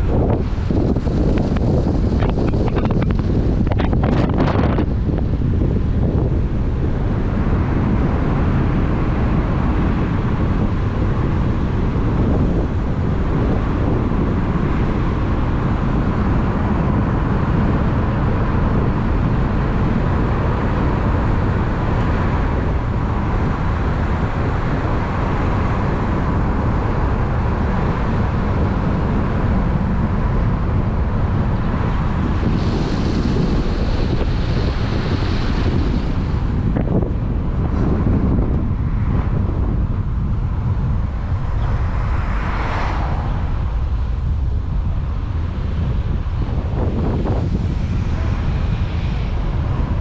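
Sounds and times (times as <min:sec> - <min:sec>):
boat engine: 0:00.0 - 0:50.0
water wash: 0:00.0 - 0:50.0
wind on microphone: 0:00.0 - 0:50.0.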